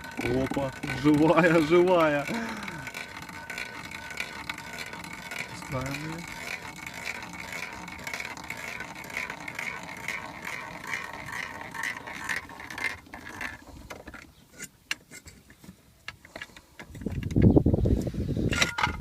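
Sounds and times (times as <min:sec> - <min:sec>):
car jack rattling: 0:00.0 - 0:17.6, 0:18.4 - 0:19.0.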